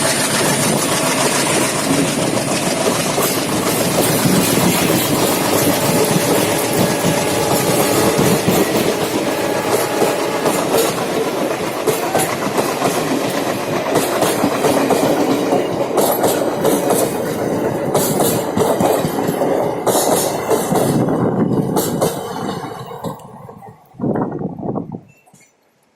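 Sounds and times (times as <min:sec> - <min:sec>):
wheels clattering over rail joints: 0:00.0 - 0:23.9
train rumbling past: 0:00.0 - 0:25.0.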